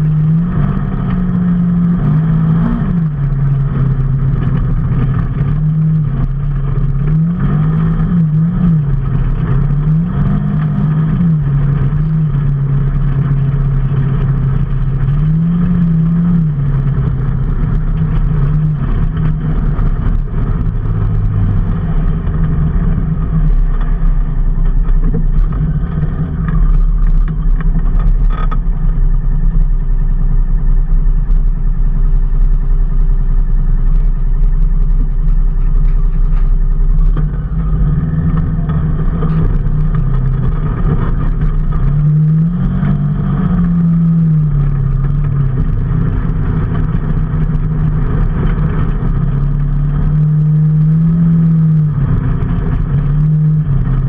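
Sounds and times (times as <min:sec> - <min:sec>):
deep low rumble: 0:00.0 - 0:54.0
vehicle engine changing gear: 0:00.0 - 0:54.0.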